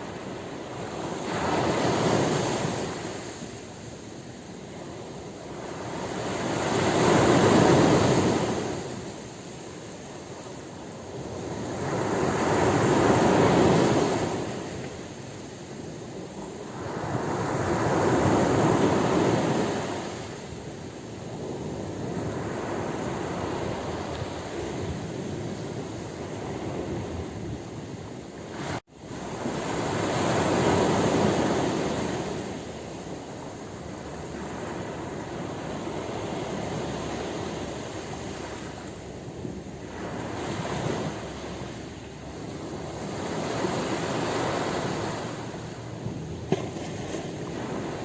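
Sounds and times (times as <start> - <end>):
ocean waves breaking on shore: 0.0 - 48.0.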